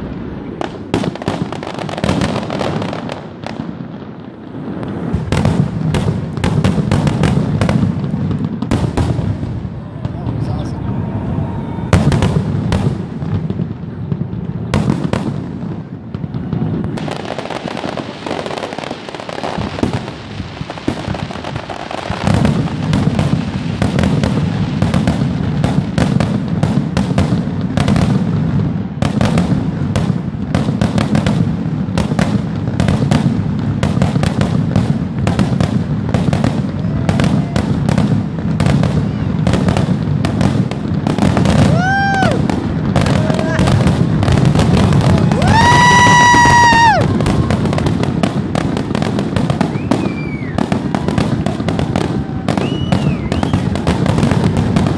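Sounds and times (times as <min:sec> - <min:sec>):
fireworks bursts and bangs: 0:00.0 - 0:54.9.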